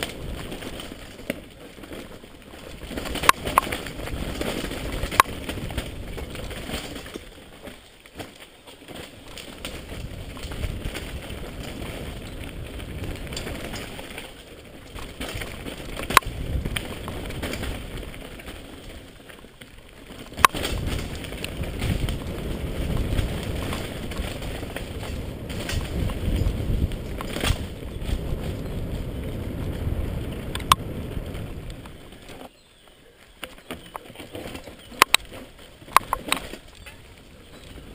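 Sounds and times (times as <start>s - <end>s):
bike tyres rumbling on trail: 0.0s - 37.9s.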